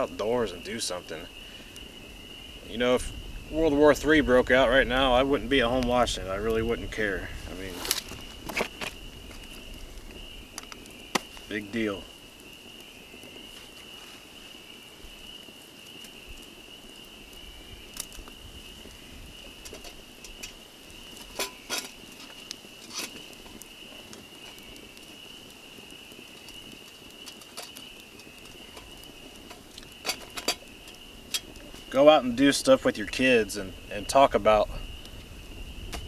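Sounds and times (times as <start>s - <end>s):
wind: 0.0s - 36.0s.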